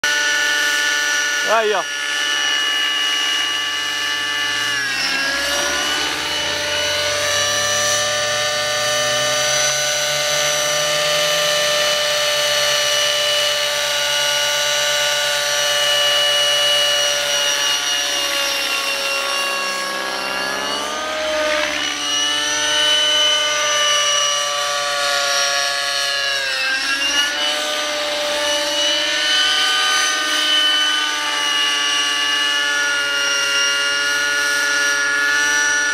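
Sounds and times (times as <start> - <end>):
model helicopter engine and rotors: 0.0 - 35.9.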